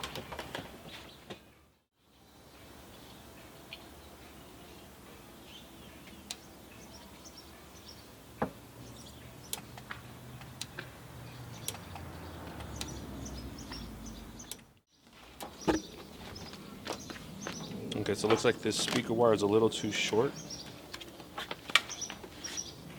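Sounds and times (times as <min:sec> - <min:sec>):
birds chirping faintly: 0:00.2 - 0:22.9.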